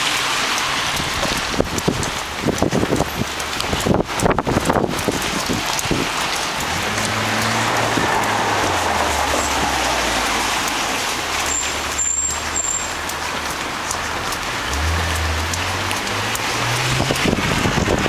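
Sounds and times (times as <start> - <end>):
rain hissing on street: 0.0 - 18.0
vehicle engine humming: 0.4 - 18.0.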